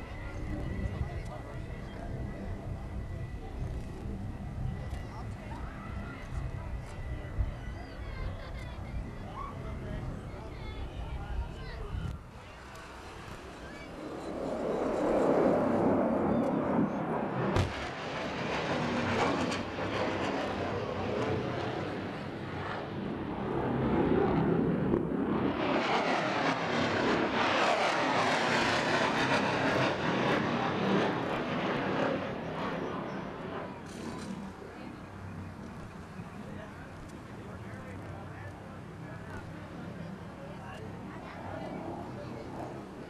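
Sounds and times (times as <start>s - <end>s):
jet flying past overhead: 0.0s - 43.0s.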